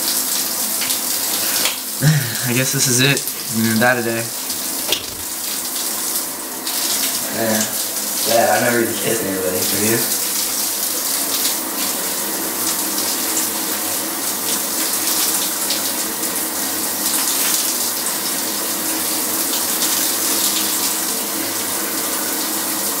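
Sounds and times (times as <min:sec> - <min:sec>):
shower running: 0:00.0 - 0:23.0.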